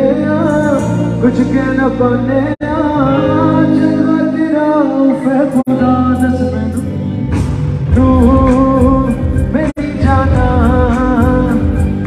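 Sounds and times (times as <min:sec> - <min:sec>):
man singing into microphone: 0:00.0 - 0:07.1, 0:07.8 - 0:12.0
live band playing pop song: 0:00.0 - 0:12.0.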